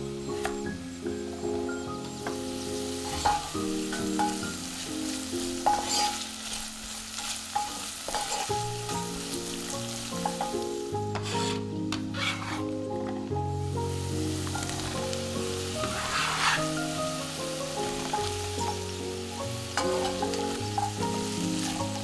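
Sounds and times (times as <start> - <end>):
soft background music: 0.0 - 22.0
vegetables sizzling in oil: 0.0 - 22.0.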